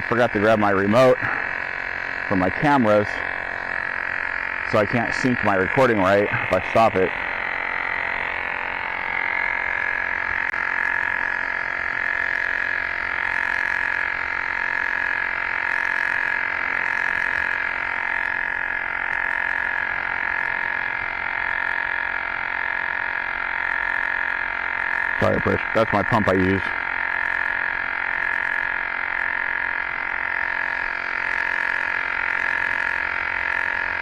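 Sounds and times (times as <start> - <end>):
electric tire pump droning: 0.0 - 34.0.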